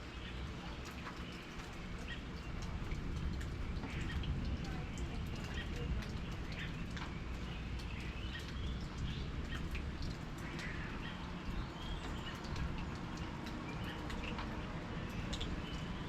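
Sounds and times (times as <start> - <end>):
rain dripping: 0.0 - 16.0
small birds chirping: 0.0 - 16.0.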